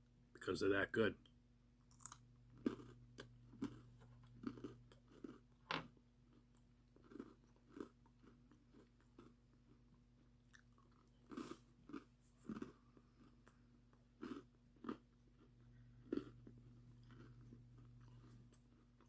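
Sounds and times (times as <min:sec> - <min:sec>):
person chewing crunchy snack: 0:01.9 - 0:19.0.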